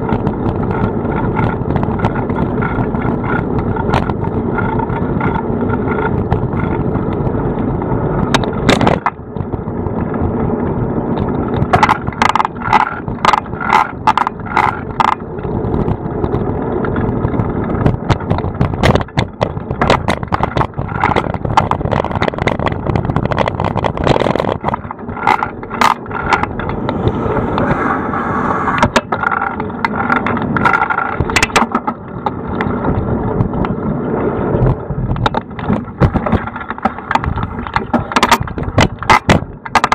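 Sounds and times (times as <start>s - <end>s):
bike mount clattering over bumps: 0.0s - 10.3s, 11.1s - 27.2s, 28.8s - 33.8s, 34.5s - 39.9s
tyres rumbling on road: 0.0s - 39.9s
wind over microphone: 0.0s - 39.9s.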